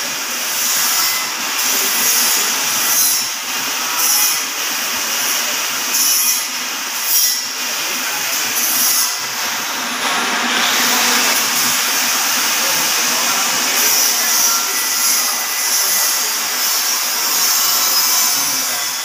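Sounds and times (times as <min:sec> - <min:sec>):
metal lathe cutting: 0:00.0 - 0:19.0.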